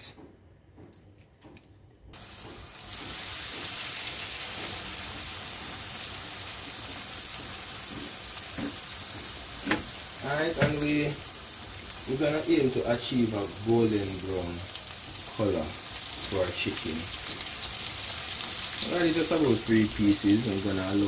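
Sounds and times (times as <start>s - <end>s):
chicken sizzling in hot oil: 2.2s - 21.0s.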